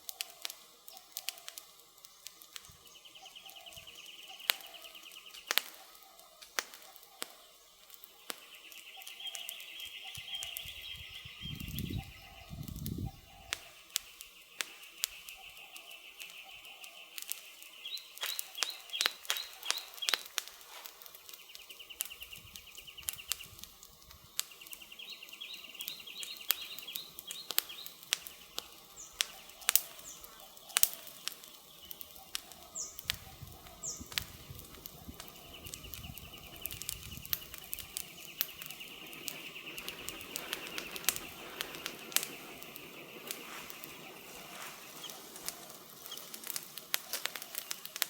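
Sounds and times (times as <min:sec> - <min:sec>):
campfire crackling and popping: 0:00.0 - 0:48.0
falling bird chirps: 0:00.0 - 0:48.0.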